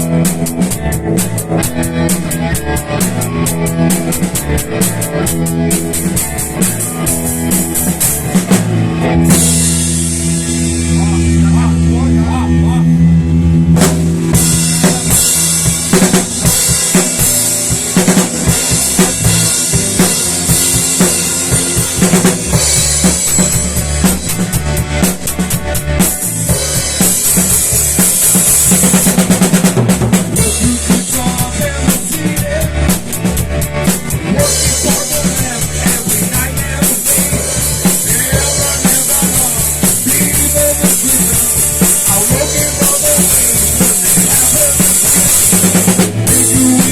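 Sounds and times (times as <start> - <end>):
instrumental rock music: 0.0 - 46.9.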